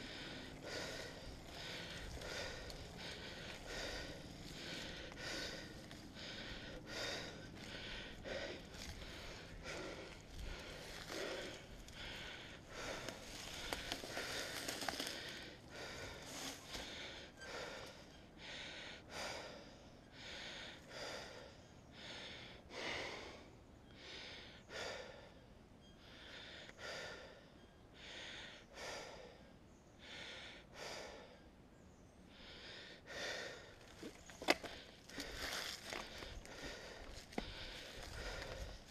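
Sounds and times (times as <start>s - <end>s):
heavy rhythmic breathing: 0.0s - 31.6s, 32.2s - 38.9s.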